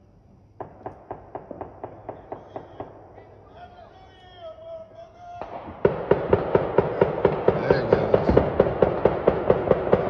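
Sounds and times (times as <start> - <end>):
fireworks banging: 0.6 - 10.0.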